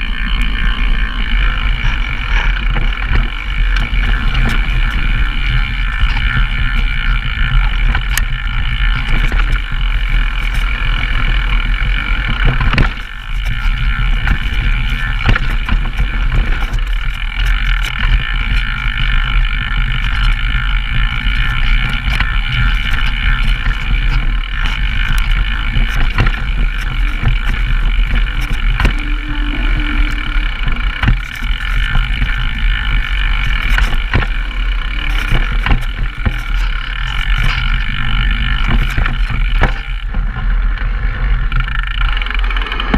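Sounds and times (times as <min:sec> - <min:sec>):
bike clacking and rattling: 0:00.0 - 0:42.9
mountain bike tyres rushing: 0:00.0 - 0:42.9.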